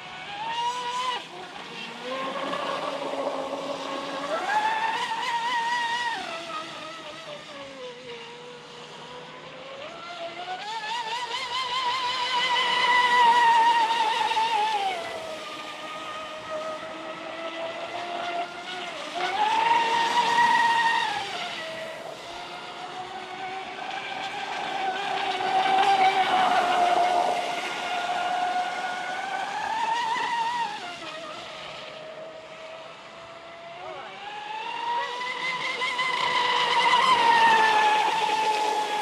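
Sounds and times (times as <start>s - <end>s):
rc boat motor whining: 0.0s - 39.0s.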